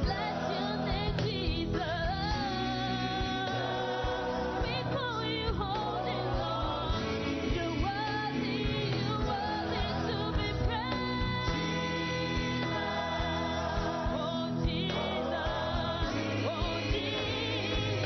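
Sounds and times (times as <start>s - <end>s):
gospel singing voices: 0.0s - 18.0s
instrumental backing with steady beat: 0.0s - 18.0s.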